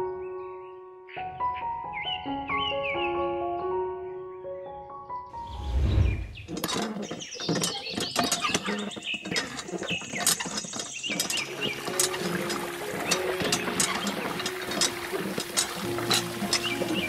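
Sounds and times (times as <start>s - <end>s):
small birds chirping: 0.2s - 3.2s, 5.4s - 17.0s.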